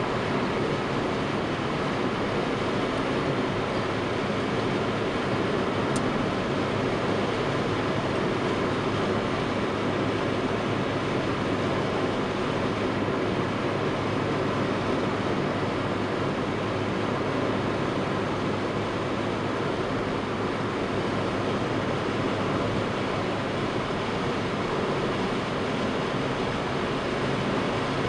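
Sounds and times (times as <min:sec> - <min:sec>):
car engine: 0:00.0 - 0:28.0.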